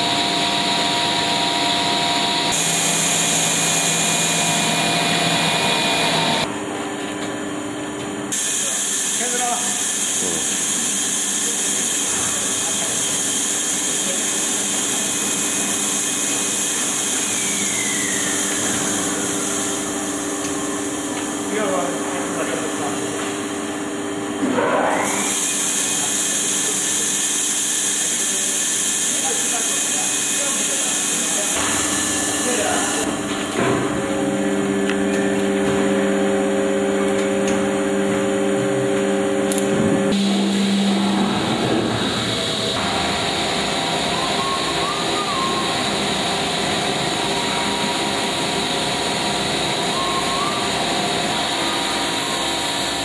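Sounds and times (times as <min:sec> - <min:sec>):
falling machine whine: 0:00.0 - 0:06.6, 0:08.3 - 0:24.0, 0:24.6 - 0:53.0
machinery hum: 0:00.0 - 0:53.0.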